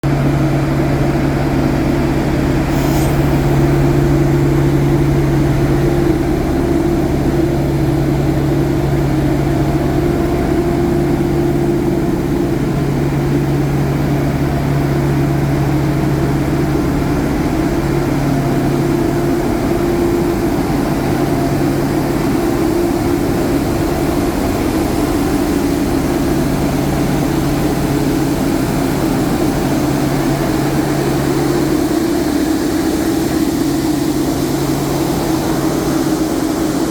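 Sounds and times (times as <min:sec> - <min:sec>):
locomotive engine humming: 0:00.0 - 0:36.9.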